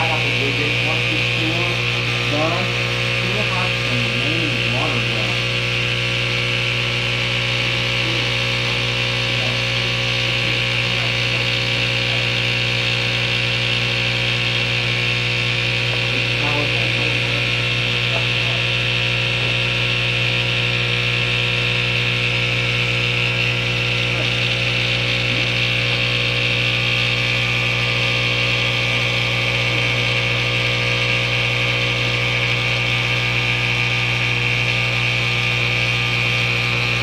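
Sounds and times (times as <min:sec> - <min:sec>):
appliance motor humming: 0:00.0 - 0:37.0.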